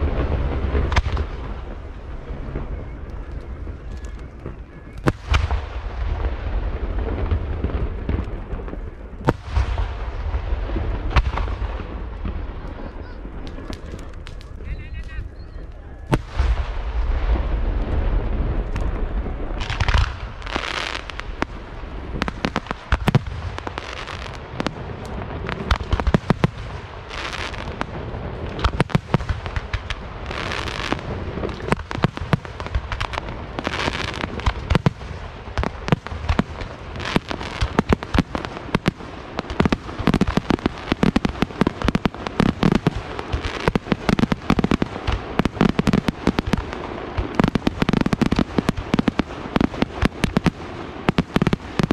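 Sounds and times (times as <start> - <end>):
crackling hiss: 0.0 - 51.9
fireworks bangs and booms: 0.0 - 51.9.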